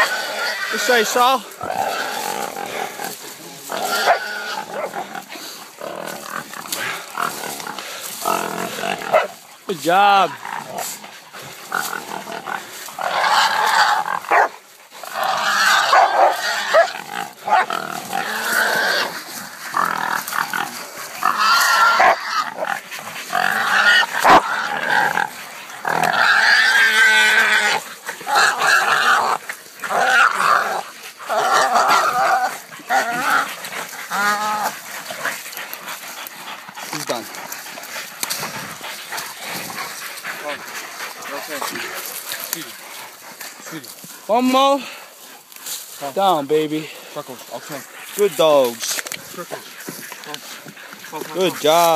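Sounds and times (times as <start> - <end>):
wild pig squealing: 0.0 - 51.9.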